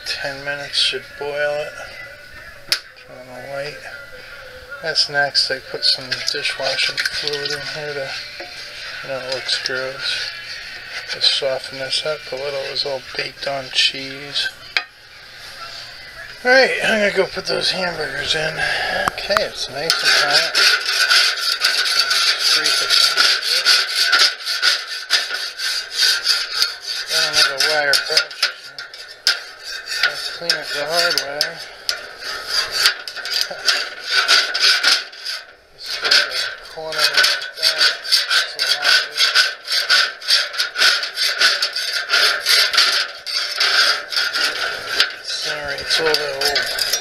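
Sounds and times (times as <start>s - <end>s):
metal spatula scraping grill grate: 0.0s - 2.1s, 4.8s - 47.0s.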